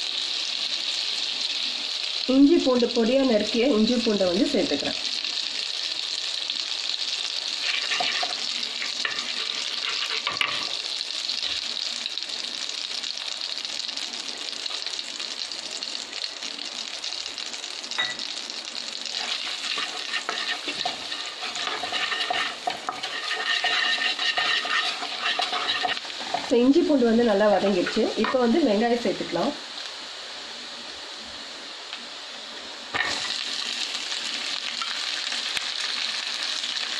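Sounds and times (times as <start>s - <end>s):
ginger and garlic sizzling: 0.0s - 36.9s.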